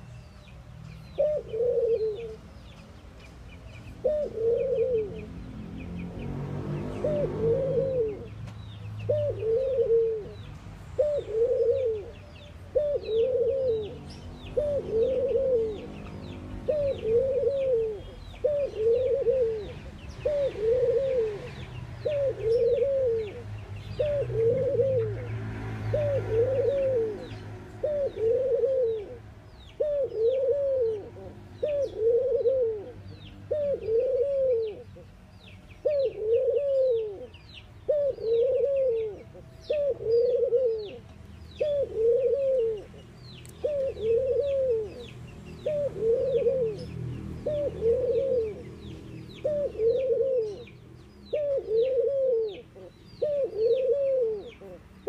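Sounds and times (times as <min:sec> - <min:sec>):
small birds chirping: 0:00.0 - 0:55.0
dove cooing: 0:01.1 - 0:02.5, 0:04.0 - 0:05.4, 0:06.8 - 0:08.4, 0:09.0 - 0:35.0, 0:35.8 - 0:55.0.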